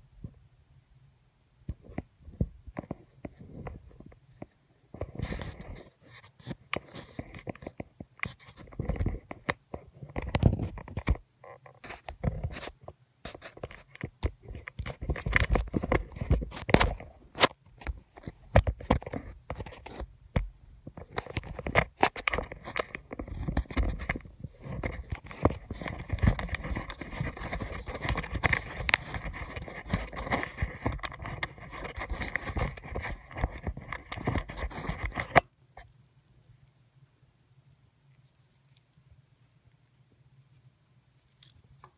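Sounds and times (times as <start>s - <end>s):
crackly rustle and scraping: 1.6s - 41.9s
clicks and taps on microphone: 1.7s - 35.9s.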